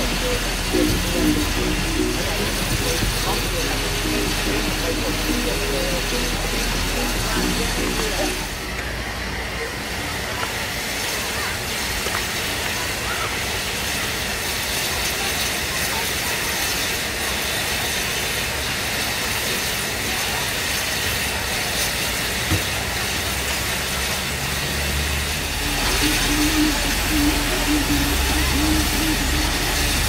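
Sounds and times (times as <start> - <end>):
steady hissing: 0.0 - 30.0.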